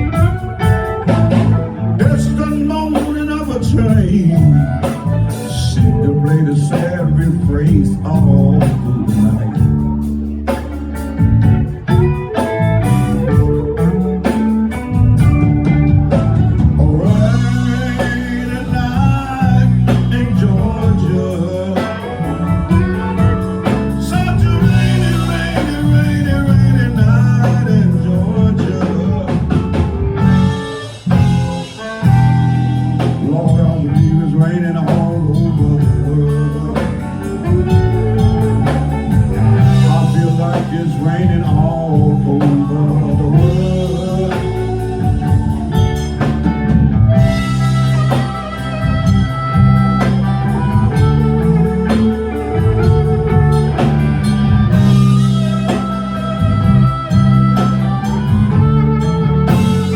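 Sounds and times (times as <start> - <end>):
blues band playing: 0.0 - 59.9
electric guitar with bends: 0.0 - 59.9.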